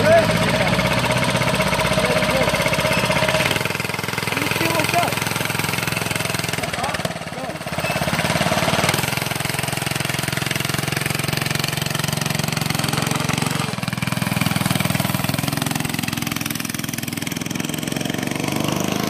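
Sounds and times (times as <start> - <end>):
go-kart engine pulsing: 0.0 - 19.0.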